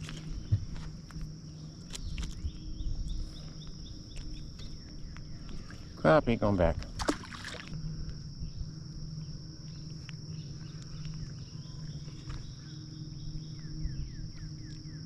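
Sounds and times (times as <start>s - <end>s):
high-pitched insect buzz: 0.0s - 15.0s
low steady hum: 0.0s - 15.0s.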